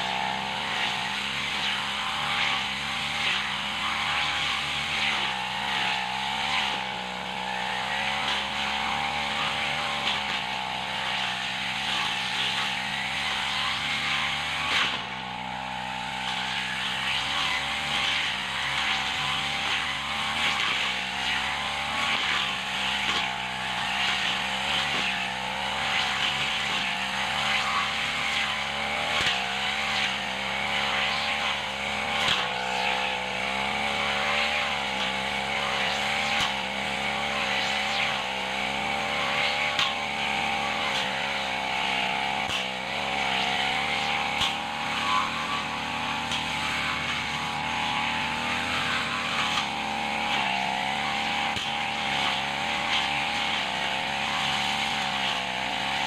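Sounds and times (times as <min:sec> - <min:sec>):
brush cutter engine whining: 0:00.0 - 0:56.0.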